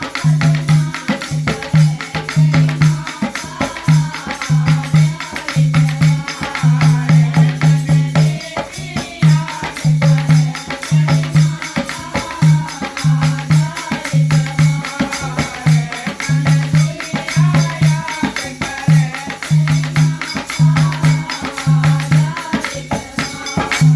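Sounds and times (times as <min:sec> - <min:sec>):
jingling hand percussion: 0:00.0 - 0:23.9.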